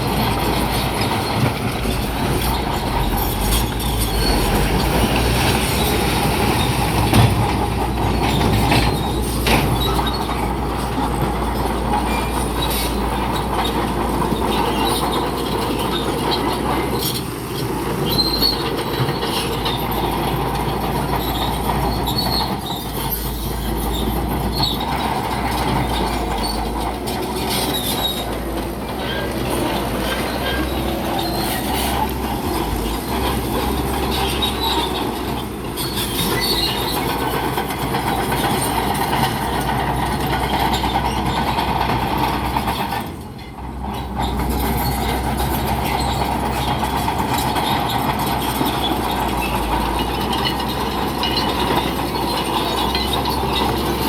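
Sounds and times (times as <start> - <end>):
bulldozer engine and tracks: 0.0 - 54.0.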